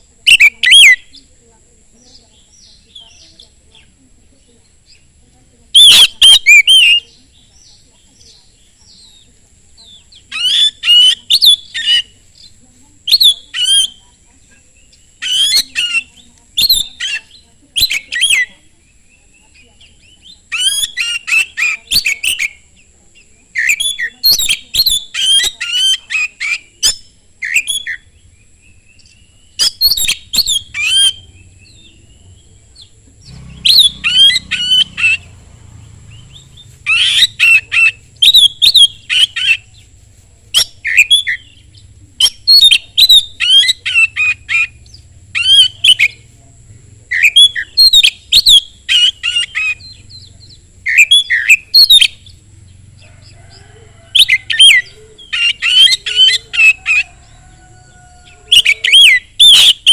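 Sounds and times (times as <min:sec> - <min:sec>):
bird singing whistled notes: 0:00.2 - 0:01.3, 0:05.7 - 0:14.0, 0:14.8 - 0:39.8, 0:40.6 - 0:46.3, 0:47.1 - 0:52.4, 0:53.6 - 0:59.9.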